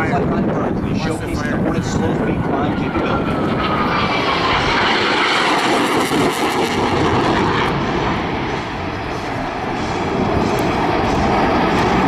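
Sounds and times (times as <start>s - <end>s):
jet engines in afterburner: 0.0s - 12.0s.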